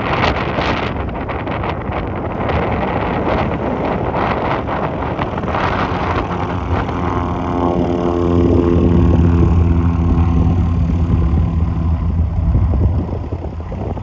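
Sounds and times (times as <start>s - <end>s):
wind buffeting microphone: 0.0s - 14.0s
small aircraft engine hum: 0.1s - 14.0s.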